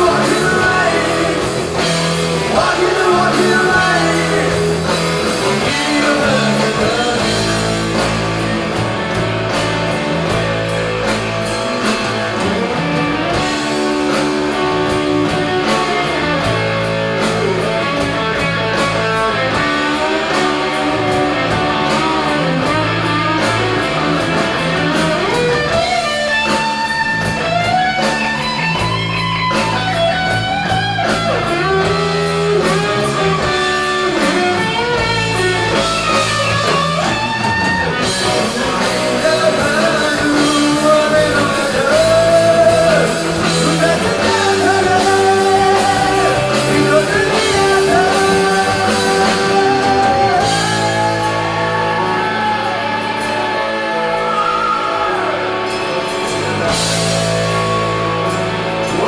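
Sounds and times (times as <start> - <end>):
bass and drums: 0.0 - 59.0
electric guitars: 0.0 - 59.0.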